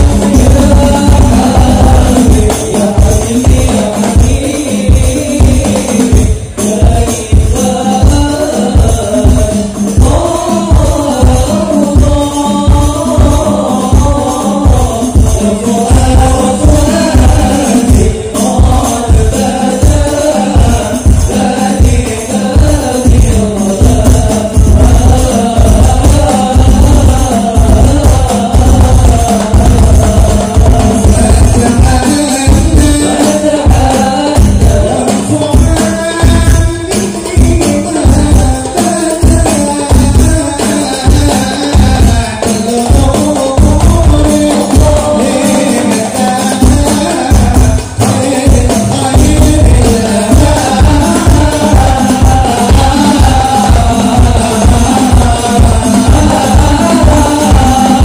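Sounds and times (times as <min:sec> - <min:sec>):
frame drums beating: 0:00.0 - 0:58.0
men singing into microphones: 0:00.0 - 0:58.0.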